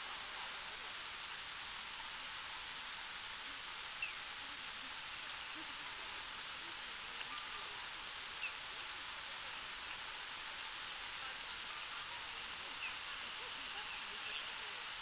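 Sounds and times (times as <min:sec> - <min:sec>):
street ambience hiss: 0:00.0 - 0:15.0.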